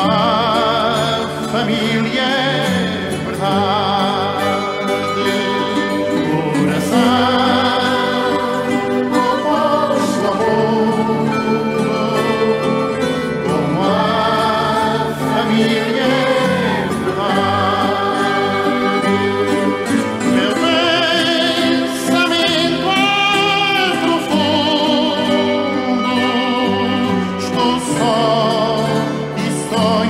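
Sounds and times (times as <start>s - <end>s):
background music: 0.0s - 30.0s
person singing with vibrato: 0.0s - 30.0s.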